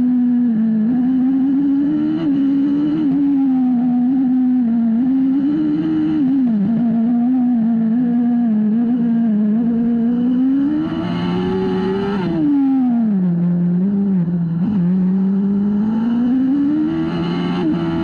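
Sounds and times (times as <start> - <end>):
racing car engine revving: 0.8 - 18.0.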